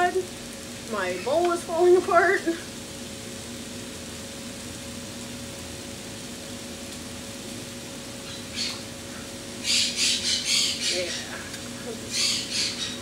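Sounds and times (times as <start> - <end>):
chicken sizzling in hot pan: 0.0 - 13.0
vegetables sizzling in a pan: 0.0 - 13.0.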